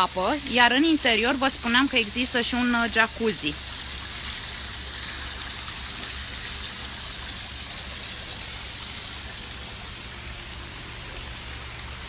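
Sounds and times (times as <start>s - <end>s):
water cascading into pool: 0.0s - 12.0s.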